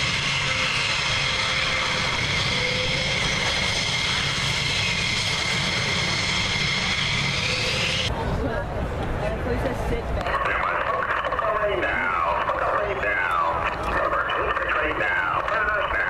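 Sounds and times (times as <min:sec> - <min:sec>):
high jet whine: 0:00.0 - 0:16.0
jet engines roaring: 0:00.0 - 0:16.0.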